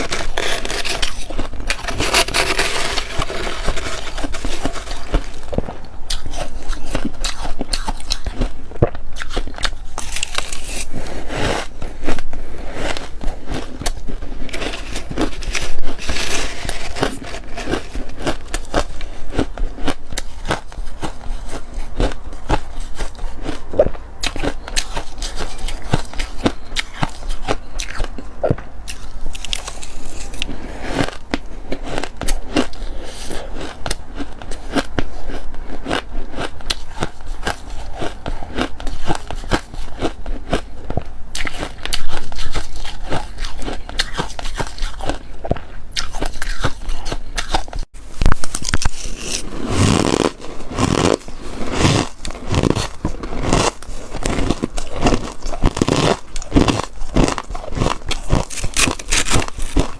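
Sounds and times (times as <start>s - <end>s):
crunching freezer frost: 0.0s - 59.9s.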